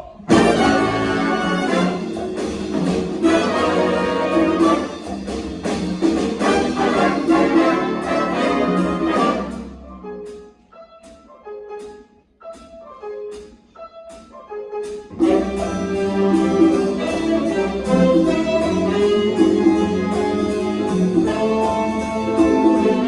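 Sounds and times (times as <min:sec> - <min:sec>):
jazz big band playing swing: 0:00.2 - 0:23.0.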